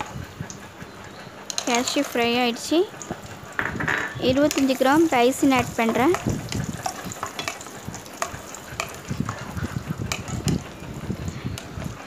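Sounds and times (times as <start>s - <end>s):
spatula stirring: 1.1s - 3.6s, 4.2s - 12.0s
nuts sizzling in hot ghee: 1.5s - 3.6s, 4.2s - 12.0s.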